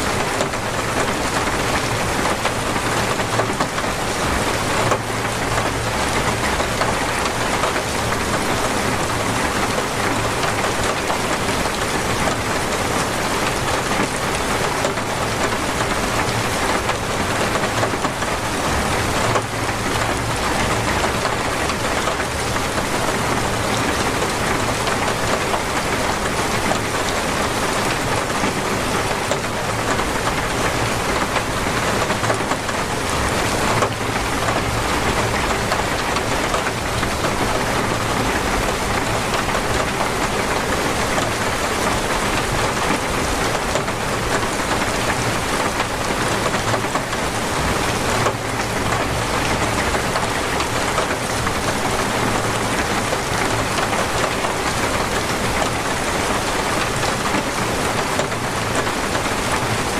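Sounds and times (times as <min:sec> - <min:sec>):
torrential rain hiss: 0:00.0 - 0:59.9.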